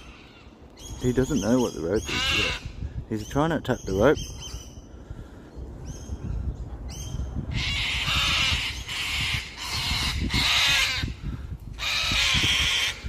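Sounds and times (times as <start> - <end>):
birds screeching: 0.0 - 5.2, 6.9 - 13.0.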